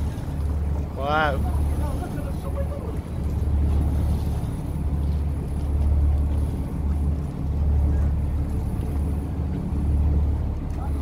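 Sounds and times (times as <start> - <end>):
boat rumble: 0.0 - 11.0.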